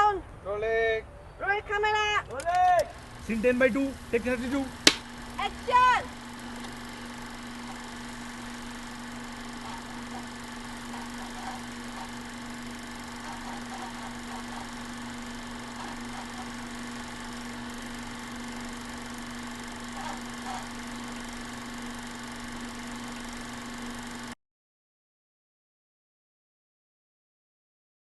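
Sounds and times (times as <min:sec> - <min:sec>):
steady mechanical hum: 0:00.0 - 0:24.4.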